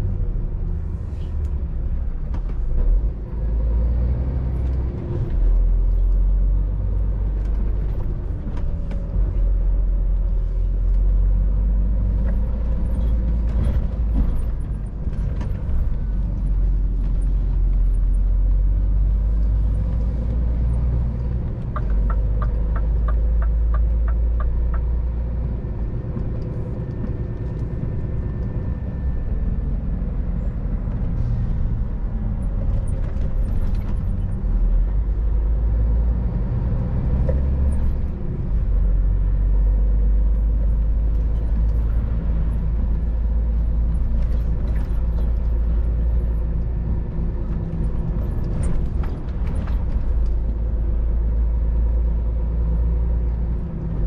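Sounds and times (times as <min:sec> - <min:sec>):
low road rumble: 0:00.0 - 0:54.0.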